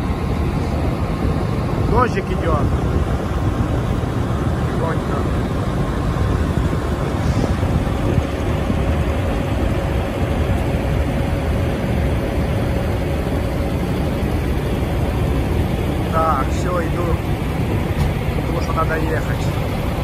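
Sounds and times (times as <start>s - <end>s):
diesel trucks idling: 0.0s - 20.0s.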